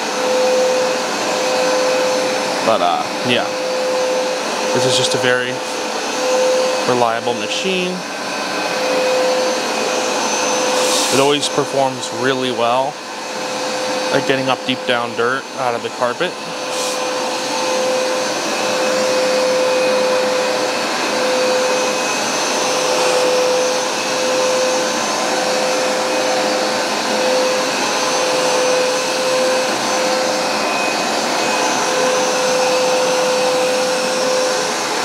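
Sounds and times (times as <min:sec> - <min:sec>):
carpet cleaner motor running: 0:00.0 - 0:35.0.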